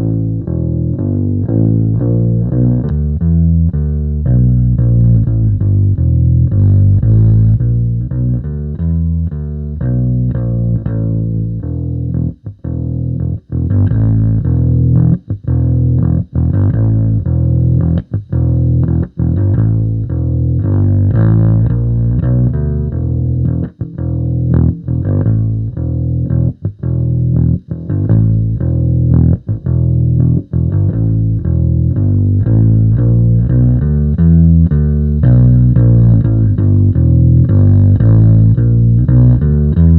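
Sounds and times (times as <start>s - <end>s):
electric bass riff: 0.0s - 39.9s.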